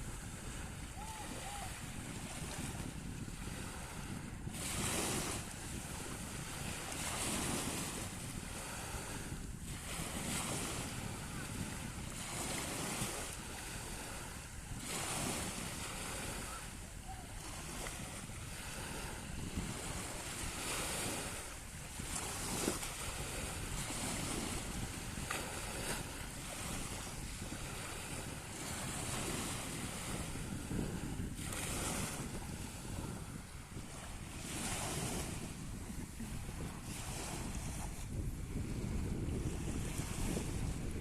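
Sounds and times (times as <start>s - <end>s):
sea waves washing onto shore: 0.0s - 41.0s
wind on microphone: 0.0s - 41.0s.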